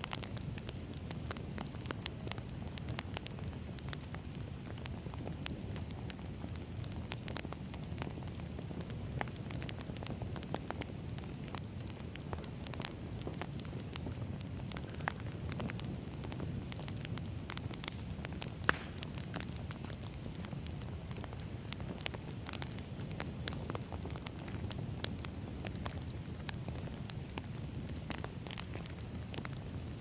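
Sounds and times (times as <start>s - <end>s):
low rumble of flames: 0.0s - 30.0s
wood crackling and popping: 0.0s - 30.0s.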